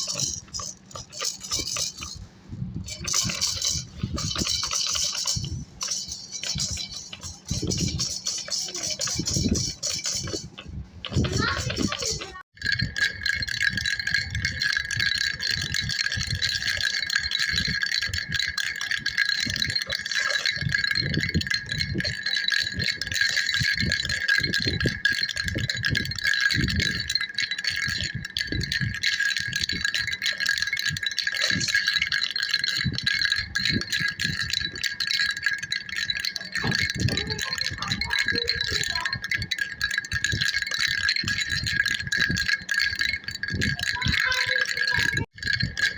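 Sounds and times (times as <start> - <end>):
baby's rattle shaken: 0.0 - 45.9.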